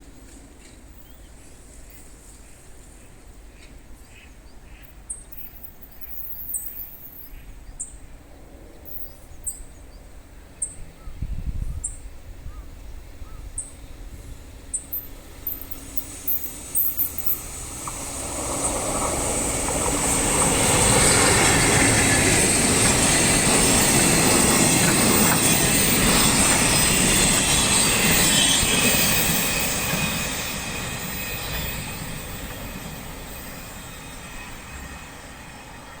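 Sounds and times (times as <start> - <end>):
electric locomotive hauling flatcars: 0.0 - 36.0.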